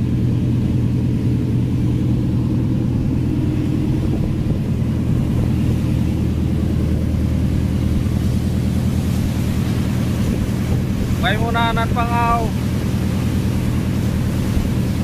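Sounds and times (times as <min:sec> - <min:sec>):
boat diesel engine droning: 0:00.0 - 0:15.0.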